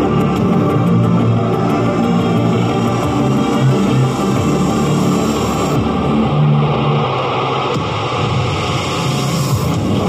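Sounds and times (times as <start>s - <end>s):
music with low sustained notes: 0.0s - 10.0s.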